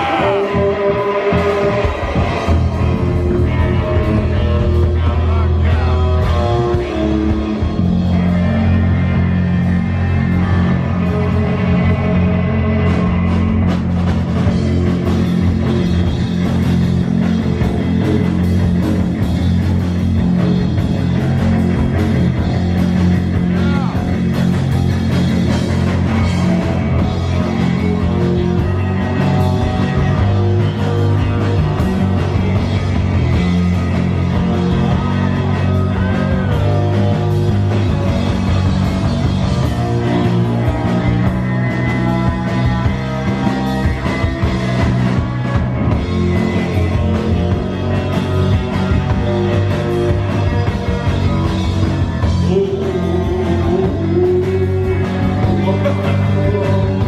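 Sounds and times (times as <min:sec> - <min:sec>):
distorted electric guitars: 0:00.0 - 0:57.0
pounding drum kit: 0:00.0 - 0:57.0.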